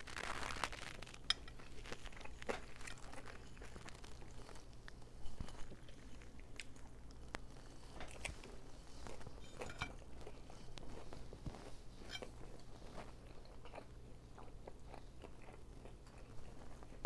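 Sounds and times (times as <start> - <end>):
biting and chewing pizza: 0.0 - 17.0
faint low hum: 0.0 - 17.0
small crunches and mouth clicks: 0.0 - 17.0.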